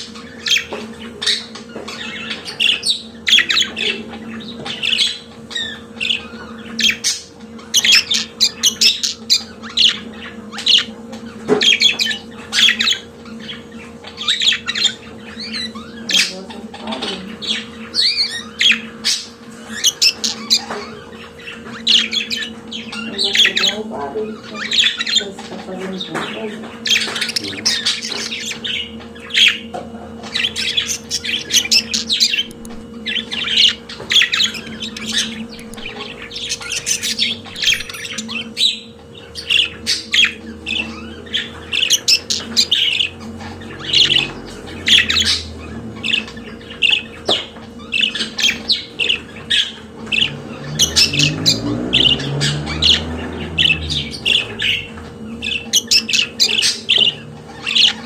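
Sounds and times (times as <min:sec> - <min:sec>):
budgerigars chattering warble: 0:00.0 - 0:58.0.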